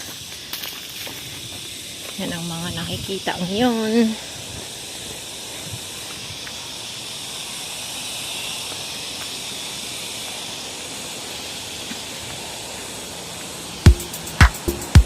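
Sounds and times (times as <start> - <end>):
drone of forest insects: 0.0 - 15.0.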